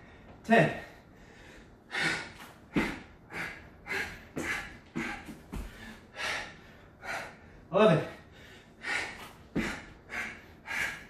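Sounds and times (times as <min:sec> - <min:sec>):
man panting hard: 0:00.0 - 0:11.0.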